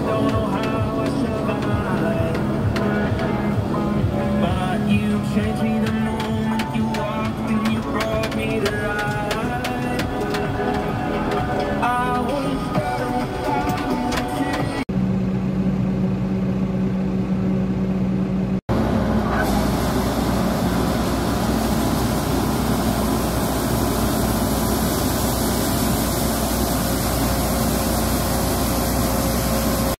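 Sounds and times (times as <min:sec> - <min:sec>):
combine harvester running: 0:00.0 - 0:30.0
tractor engine humming: 0:00.0 - 0:30.0.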